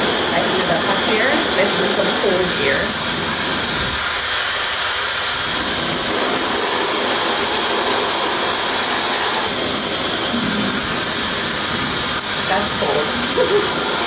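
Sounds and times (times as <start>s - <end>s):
hair dryer blowing air: 0.0s - 14.0s.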